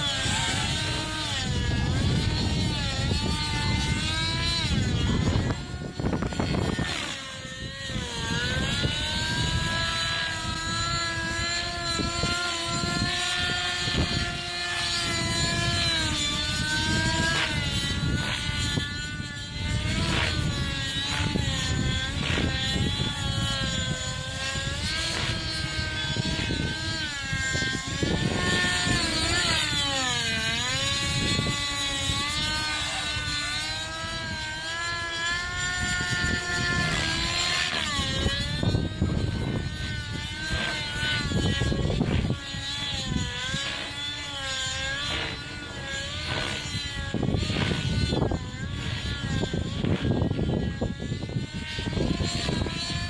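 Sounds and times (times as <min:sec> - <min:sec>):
rc helicopter engine and rotor: 0:00.0 - 0:53.0.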